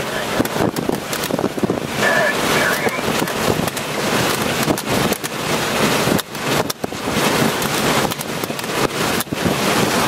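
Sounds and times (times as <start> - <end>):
storm wind blasting microphone: 0.0 - 10.0.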